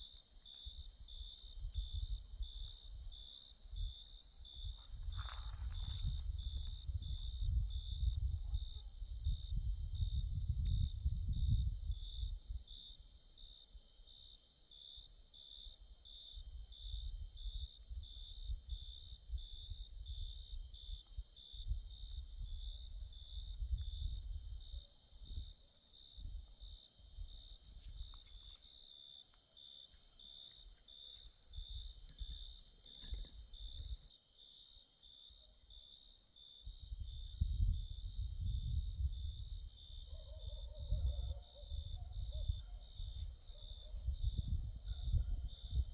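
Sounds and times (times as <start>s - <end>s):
insect pulsing chirp: 0.0s - 45.9s.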